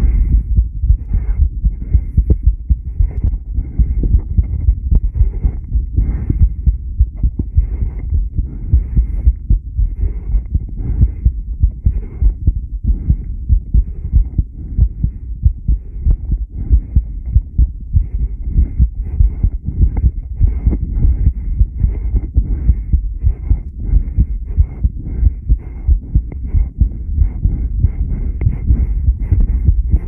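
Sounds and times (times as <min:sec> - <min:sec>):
heartbeat thumps: 0:00.0 - 0:30.0.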